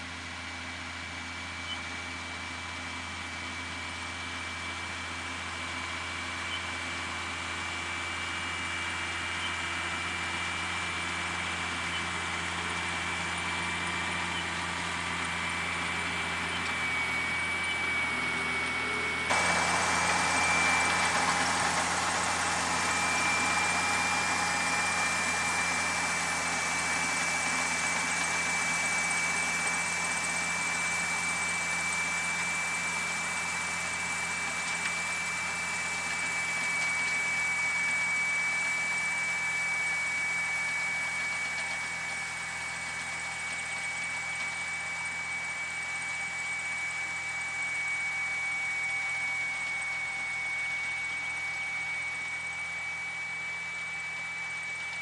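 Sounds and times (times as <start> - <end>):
tractor diesel engine running: 0.0 - 55.0
high-pitched whine: 5.8 - 55.0.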